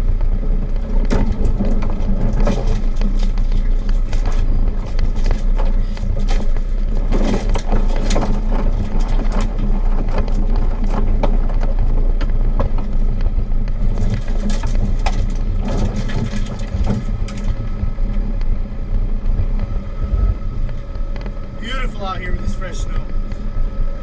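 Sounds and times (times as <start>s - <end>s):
body and suspension rattling: 0.0s - 24.0s
engine running at low revs: 0.0s - 24.0s.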